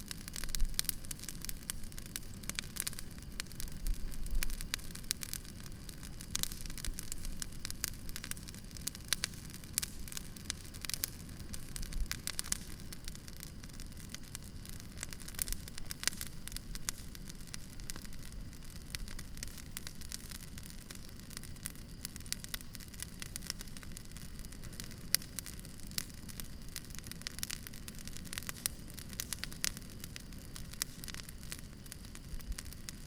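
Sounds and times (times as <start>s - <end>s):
low rumble of flames: 0.0s - 33.0s
wood crackling and popping: 0.0s - 33.0s.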